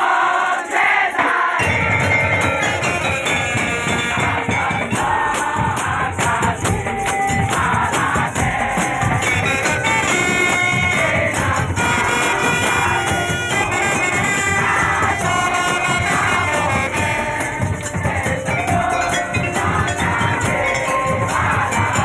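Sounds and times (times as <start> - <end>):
busy percussion: 0.0 - 22.0
person singing: 0.0 - 22.0
live music melody: 1.6 - 22.0.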